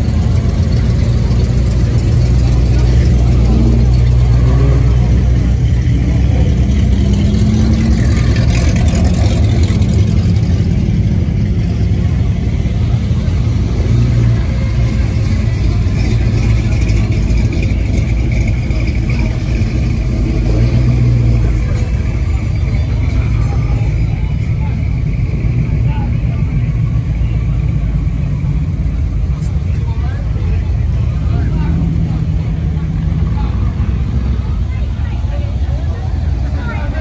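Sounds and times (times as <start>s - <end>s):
car engine revving: 0.0s - 37.0s
car engines rumbling: 0.0s - 37.0s.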